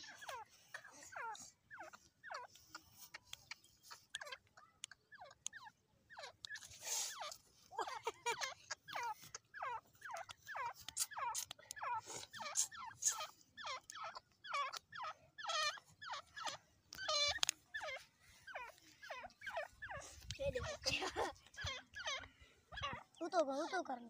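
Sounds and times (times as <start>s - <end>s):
partridge calling: 0.0s - 24.0s.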